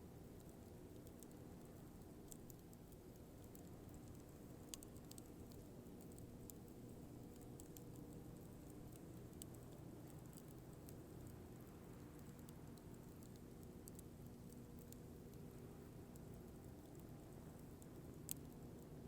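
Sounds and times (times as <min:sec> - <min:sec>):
low rumble of fire: 0:00.0 - 0:19.0
fire popping and snapping: 0:00.2 - 0:19.0
firewood crackling: 0:00.4 - 0:19.0.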